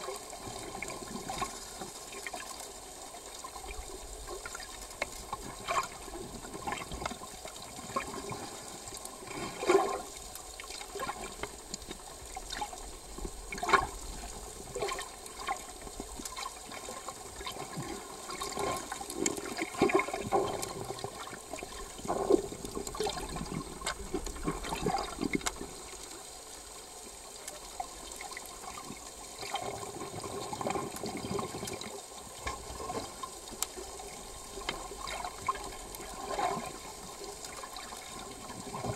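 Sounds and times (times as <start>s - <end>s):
underwater water gurgling: 0.0s - 38.9s.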